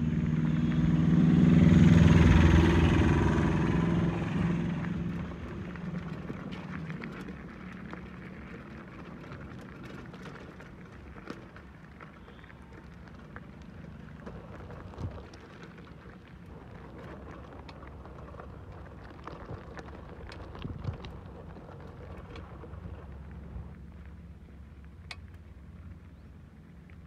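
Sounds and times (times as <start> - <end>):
bike tyres rolling over gravel: 0.0 - 27.0.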